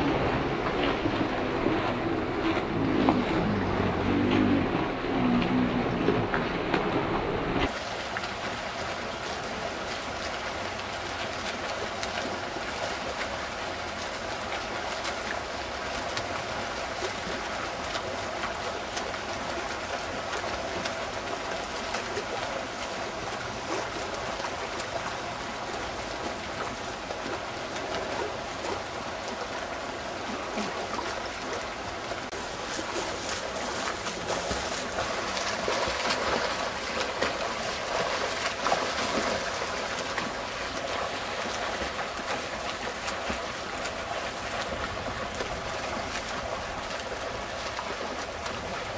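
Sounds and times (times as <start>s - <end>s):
swimmers splashing water: 0.0s - 48.9s.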